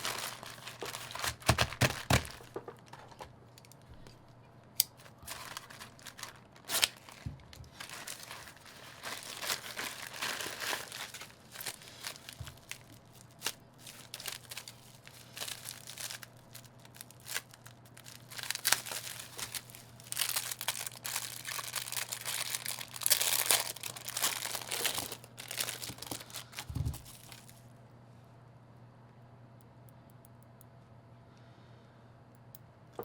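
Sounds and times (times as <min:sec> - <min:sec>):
plastic packaging crinkling: 0:00.0 - 0:27.7.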